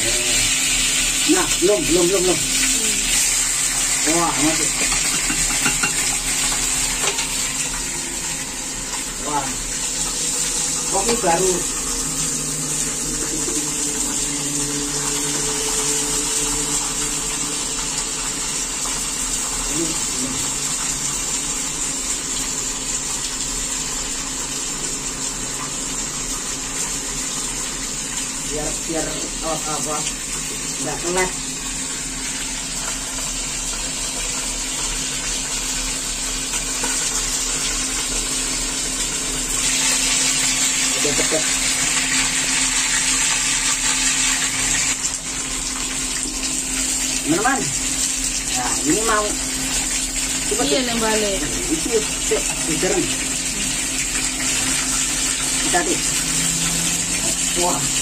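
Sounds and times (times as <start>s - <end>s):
fish deep-frying in oil: 0.0s - 58.0s.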